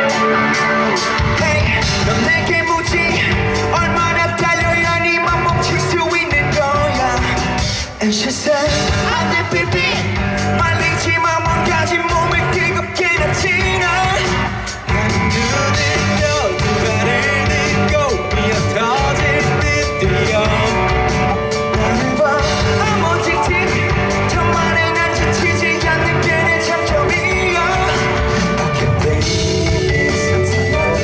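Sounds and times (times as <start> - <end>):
live rock band playing: 0.0 - 31.0
person singing: 0.0 - 31.0.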